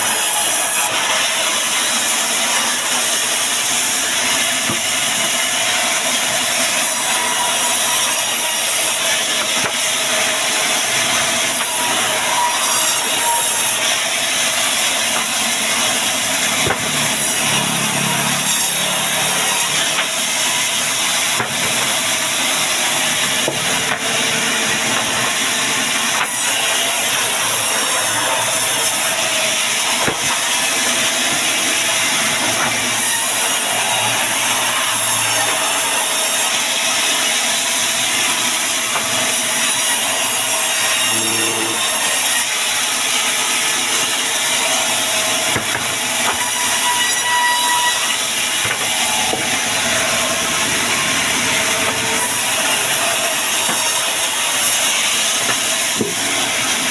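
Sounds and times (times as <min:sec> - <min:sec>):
band saw blade cutting log: 0:00.0 - 0:56.9.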